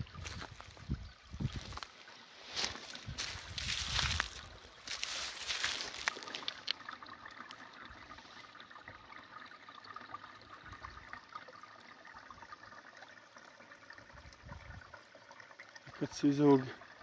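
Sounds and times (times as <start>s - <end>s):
water dripping: 0.0s - 17.0s
water trickling into a pool: 0.0s - 17.0s.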